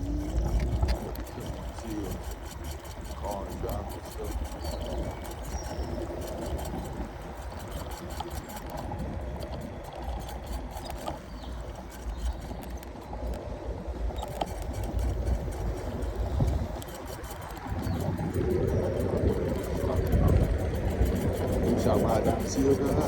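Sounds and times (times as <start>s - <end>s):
faint clicks: 0.0s - 23.0s
wind and road noise: 0.0s - 23.0s.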